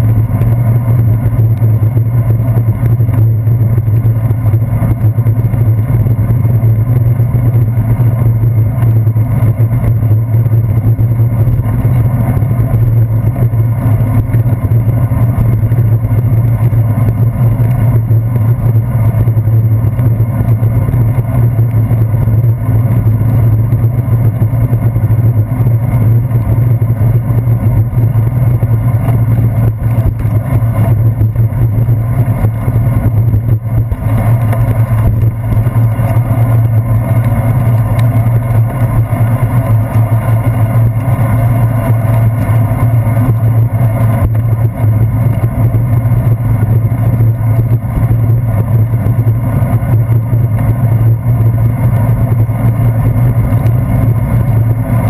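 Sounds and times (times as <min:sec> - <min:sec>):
bicycle rolling on wet pavement: 0:00.0 - 0:55.0.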